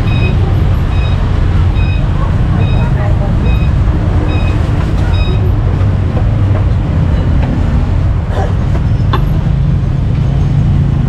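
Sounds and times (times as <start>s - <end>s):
street traffic engine rumble: 0.0s - 11.0s.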